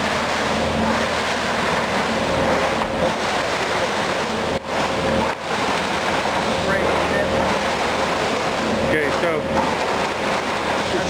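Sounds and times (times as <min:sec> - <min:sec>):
punch press running: 0:00.0 - 0:11.0.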